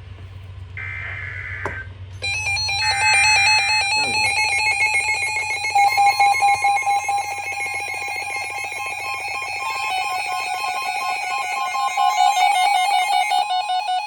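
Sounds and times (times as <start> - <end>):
two-tone alert alarm: 1.6 - 14.0.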